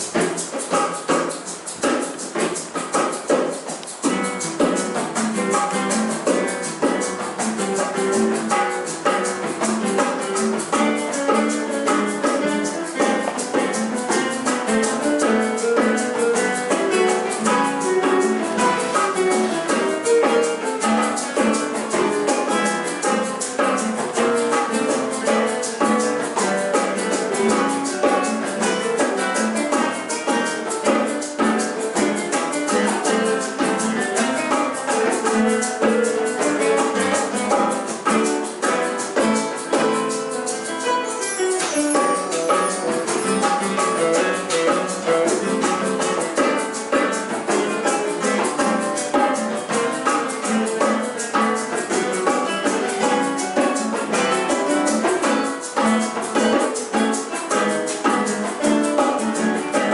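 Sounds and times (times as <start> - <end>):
classical guitars playing: 0.0 - 59.9
percussion high ticks: 0.0 - 59.9.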